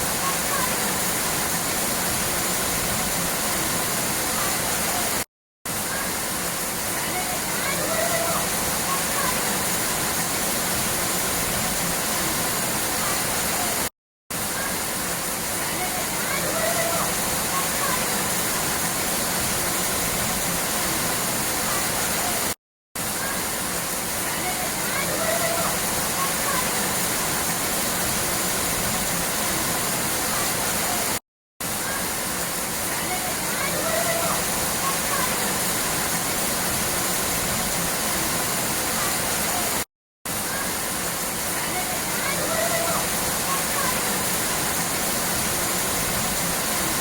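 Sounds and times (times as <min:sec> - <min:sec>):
falling water roaring: 0:00.0 - 0:47.0.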